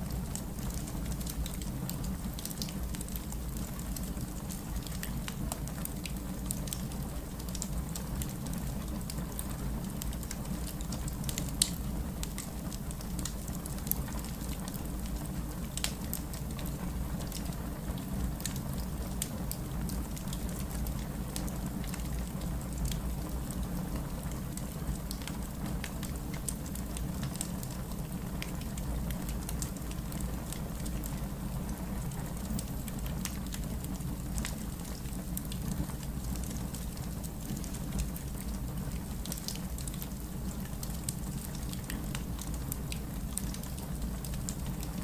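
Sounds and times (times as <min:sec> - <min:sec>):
low rumble of flame: 0:00.0 - 0:45.0
wood fire crackling: 0:00.0 - 0:45.0.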